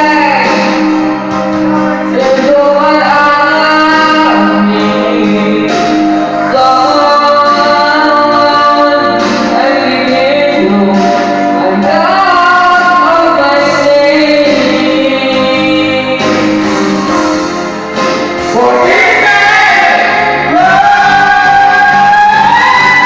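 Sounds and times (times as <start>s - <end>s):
band accompaniment: 0.0s - 23.0s
high singing voice: 1.6s - 16.6s, 18.5s - 23.0s.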